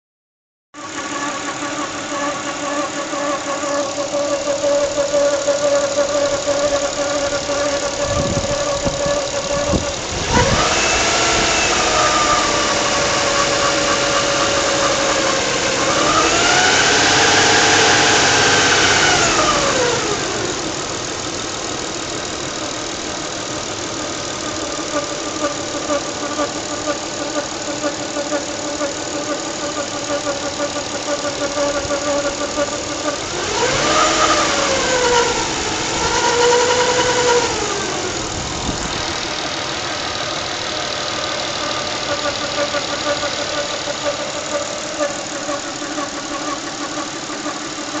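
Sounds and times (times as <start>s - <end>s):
car engine idling with whine: 0.8s - 48.0s
car engine revving: 0.8s - 48.0s.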